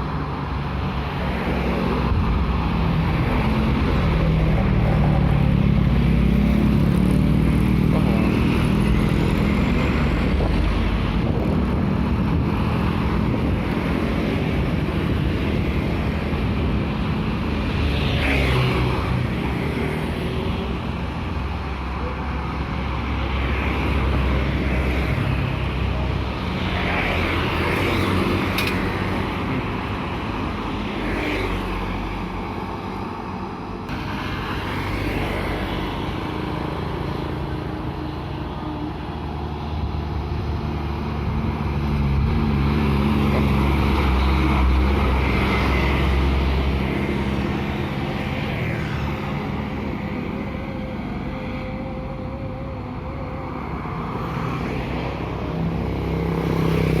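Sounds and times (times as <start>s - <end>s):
vehicle engines droning: 0.0s - 57.0s.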